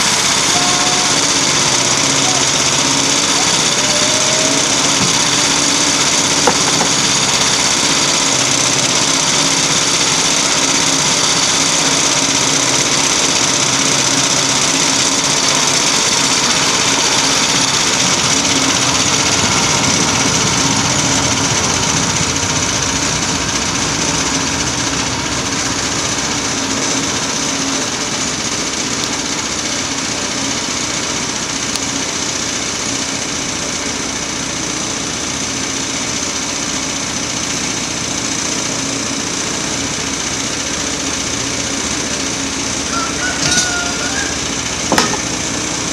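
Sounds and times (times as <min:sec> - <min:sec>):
saw blade whine: 0:00.0 - 0:45.9
small gasoline engine running: 0:00.0 - 0:45.9.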